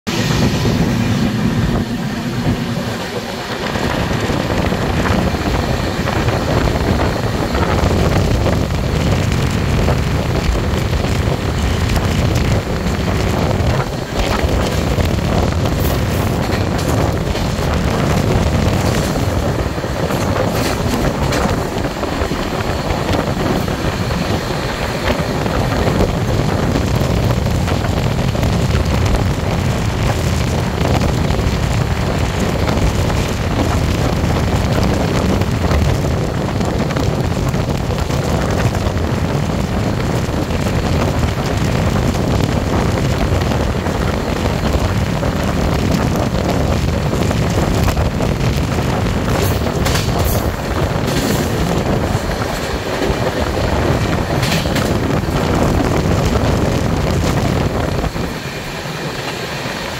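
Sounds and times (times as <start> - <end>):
train rumbling at speed: 0.0 - 59.9
wind rushing: 0.0 - 59.9
wind buffeting the microphone: 0.1 - 59.9.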